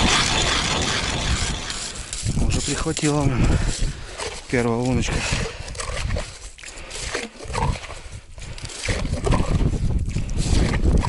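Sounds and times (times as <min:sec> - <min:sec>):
snow and ice crunching and scraping: 0:00.0 - 0:11.0.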